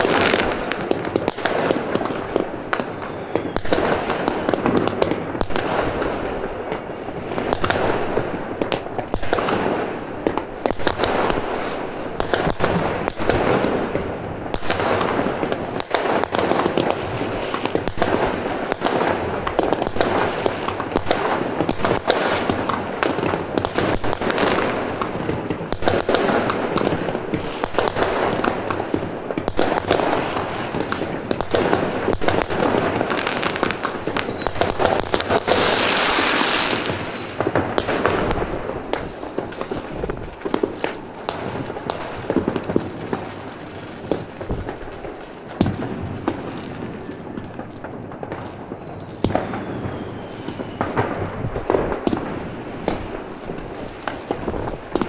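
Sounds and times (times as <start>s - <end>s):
fireworks and firecrackers banging: 0.0s - 55.0s.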